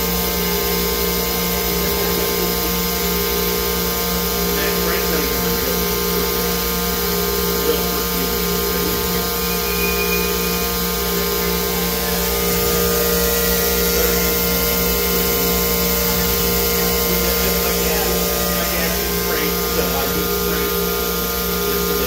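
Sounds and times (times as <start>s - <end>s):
spindle whine: 0.0s - 22.0s
end mill cutting hiss: 0.1s - 22.0s.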